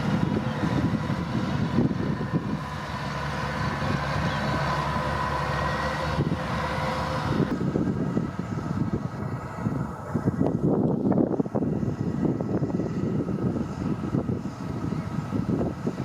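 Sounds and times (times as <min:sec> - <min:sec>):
combine harvester diesel engine: 0:00.0 - 0:16.0
machinery whine: 0:00.0 - 0:16.0
wind buffeting microphone: 0:00.0 - 0:16.0.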